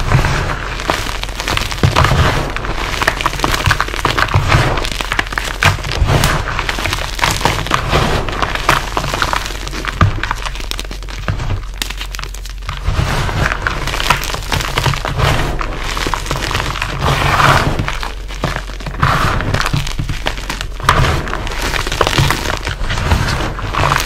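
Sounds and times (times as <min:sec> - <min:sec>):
chalk sifting into bowl: 0:00.0 - 0:06.8, 0:07.5 - 0:09.9, 0:12.7 - 0:24.0
chalk crunching by hand: 0:00.0 - 0:24.0.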